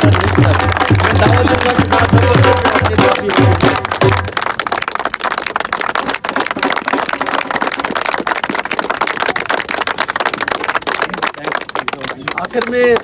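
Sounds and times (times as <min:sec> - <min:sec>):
crowd clapping: 0:00.0 - 0:13.0.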